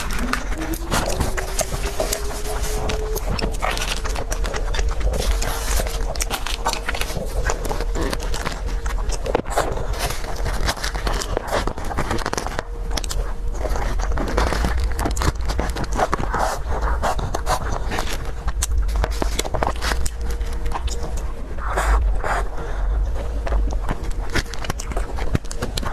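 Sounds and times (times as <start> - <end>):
low steady hum: 0.0 - 25.9
person chewing: 0.0 - 25.9.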